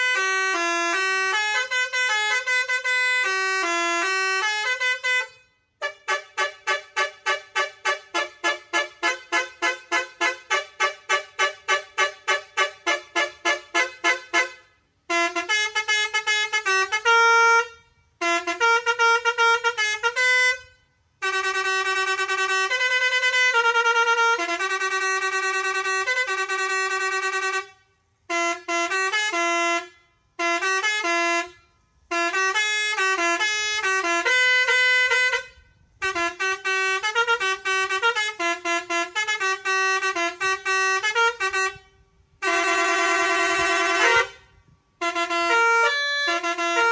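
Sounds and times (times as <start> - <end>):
musical air horn playing tunes: 0.0 - 46.9.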